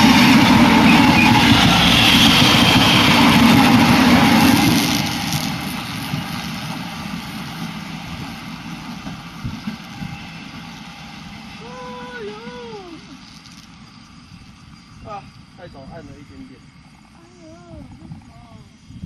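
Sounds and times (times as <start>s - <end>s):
train wheels on rails: 0.0s - 18.9s
electric train passing: 0.0s - 19.0s.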